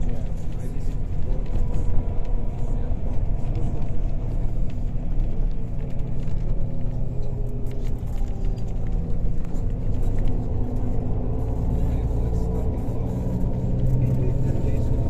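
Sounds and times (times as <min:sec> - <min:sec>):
vehicle rumble from inside cabin: 0:00.0 - 0:15.0.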